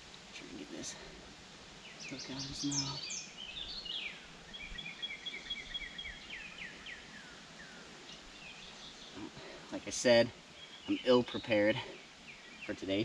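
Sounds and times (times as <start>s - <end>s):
faint outdoor hiss: 0.0s - 13.0s
songbird singing: 0.0s - 13.0s.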